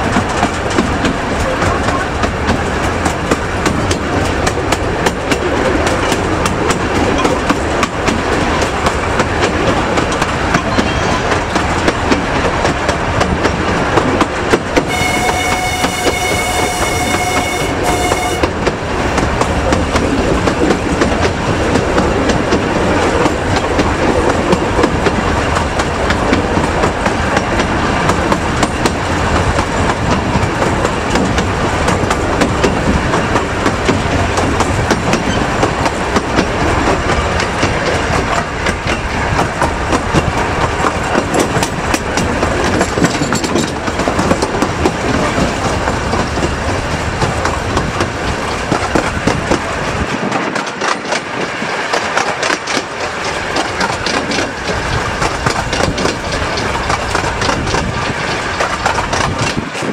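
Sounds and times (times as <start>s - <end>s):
clicking over rail joints: 0.0s - 17.2s, 18.4s - 59.9s
train wheel rumble: 0.0s - 59.9s.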